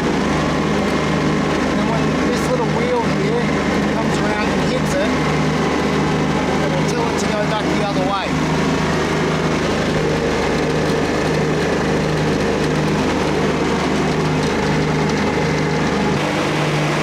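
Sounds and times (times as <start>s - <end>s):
engine humming: 0.0s - 17.0s
frost fan rushing: 0.0s - 17.0s.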